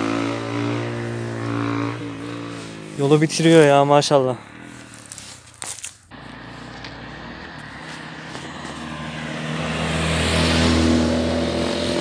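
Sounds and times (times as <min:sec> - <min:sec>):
car engine approaching: 0:00.0 - 0:12.0
motorcycle engine approaching: 0:00.0 - 0:12.0.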